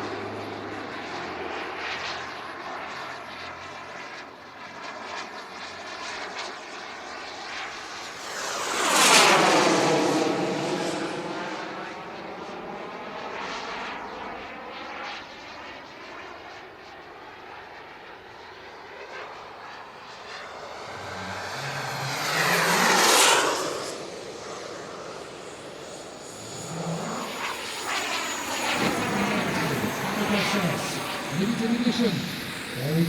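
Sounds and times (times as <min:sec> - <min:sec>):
model jet turbine engines whining: 0:00.0 - 0:33.0.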